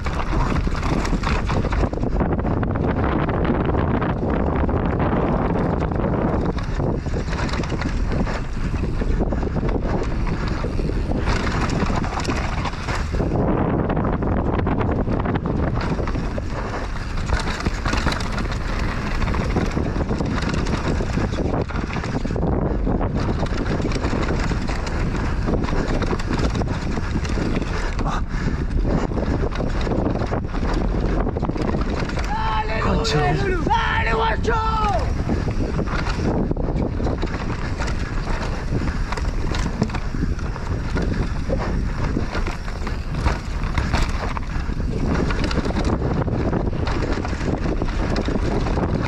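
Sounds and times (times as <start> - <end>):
tyres scrabbling over loose dirt: 0.0 - 34.0, 34.8 - 49.0
bike rattling over bumps: 0.0 - 49.0
wind buffeting microphone: 0.0 - 49.0.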